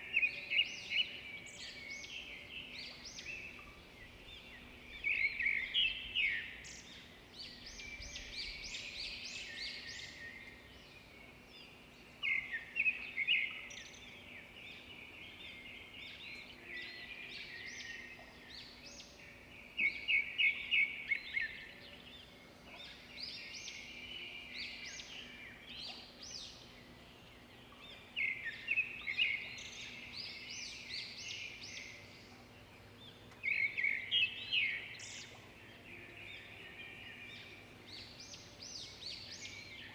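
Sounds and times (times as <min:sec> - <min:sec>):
bird song phrase: 0:00.0 - 0:39.9.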